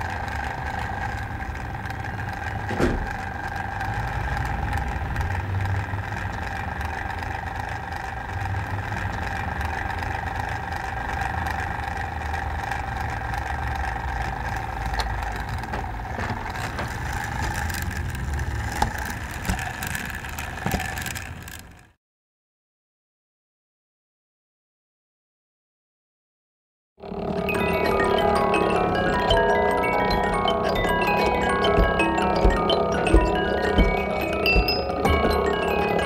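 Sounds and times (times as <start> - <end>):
mechanism whirring hum: 0.0 - 22.0, 27.0 - 36.0.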